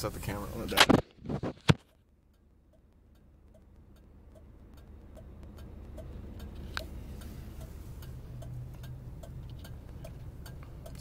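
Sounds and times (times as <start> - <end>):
car engine idling: 1.9 - 11.0
steady ticking: 1.9 - 11.0.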